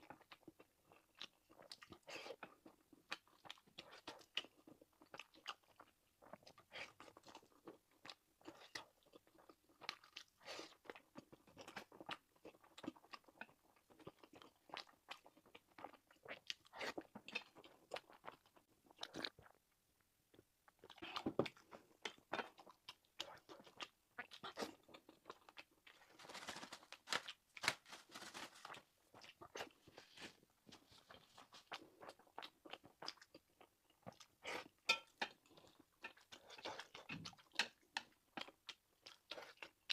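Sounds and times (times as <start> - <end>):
close-miked eating and chewing: 0.0 - 39.9.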